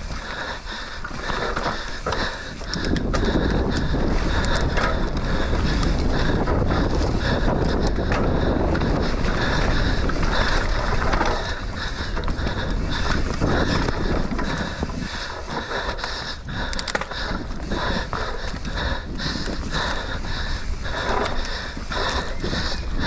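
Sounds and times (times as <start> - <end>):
bike chain and frame rattling: 0.0 - 23.0
tyres rumbling over dirt: 0.0 - 23.0
wind rushing over microphone: 0.0 - 23.0.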